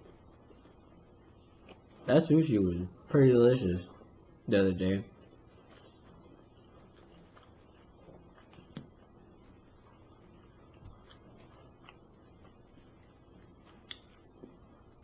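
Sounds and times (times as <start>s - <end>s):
quiet chewing: 0.0s - 2.1s, 5.1s - 15.0s.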